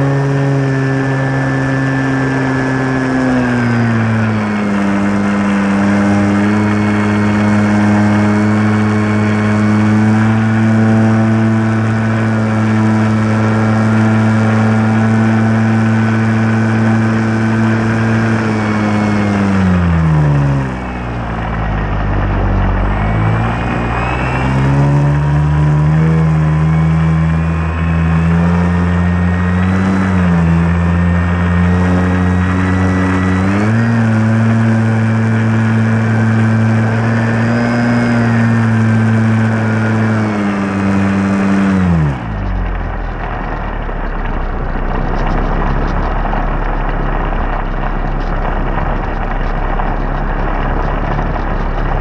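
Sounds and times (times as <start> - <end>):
model plane motor and propeller: 0.0 - 52.0.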